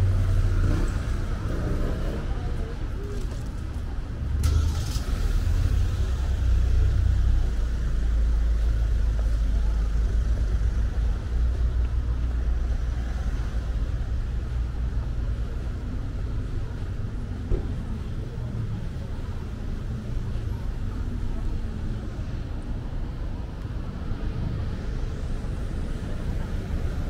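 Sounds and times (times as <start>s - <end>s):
low city rumble: 0.0s - 27.0s.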